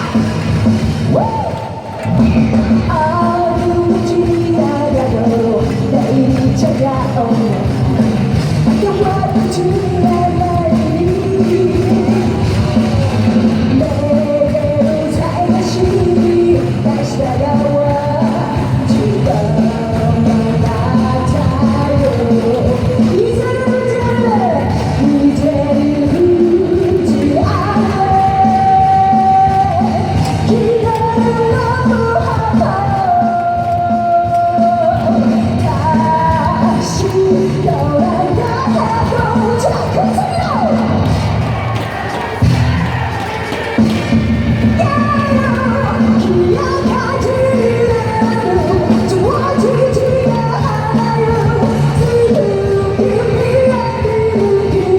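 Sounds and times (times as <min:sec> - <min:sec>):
person singing: 0:00.0 - 0:41.0, 0:44.6 - 0:54.9
pop rock band music: 0:00.0 - 0:54.9.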